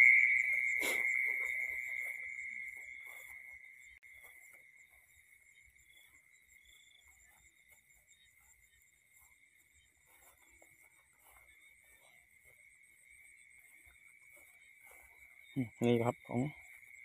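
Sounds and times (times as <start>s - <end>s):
night insects trilling: 0.0s - 17.0s
footsteps through grass: 0.1s - 17.0s.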